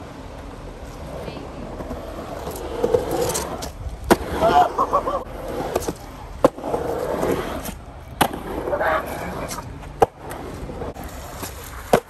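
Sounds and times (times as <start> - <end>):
skateboard clacking: 0.0 - 12.0
skateboard wheels rolling on concrete: 0.0 - 12.0.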